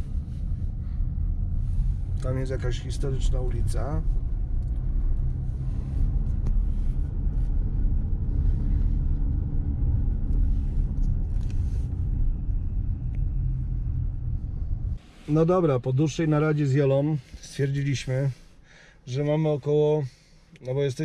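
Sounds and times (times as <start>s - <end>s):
car engine hum: 0.0s - 19.8s.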